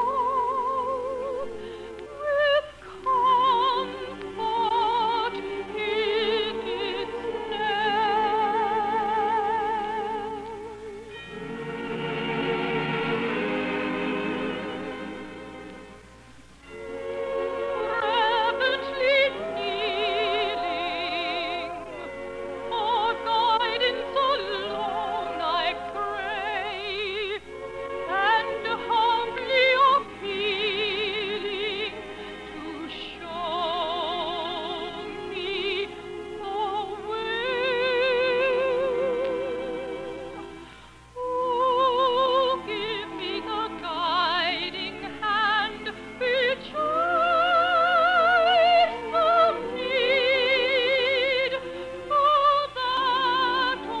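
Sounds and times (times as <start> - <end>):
operatic singing with vibrato: 0.0 - 54.0
orchestral accompaniment: 0.0 - 54.0.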